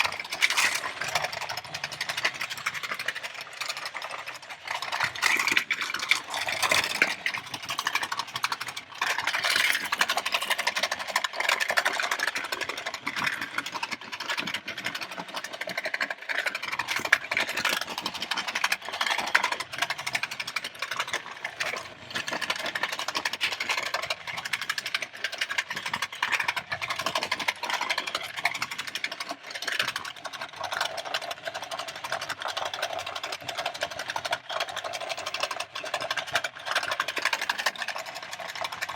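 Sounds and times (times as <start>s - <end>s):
toy motor and gears whirring: 0.0s - 38.9s.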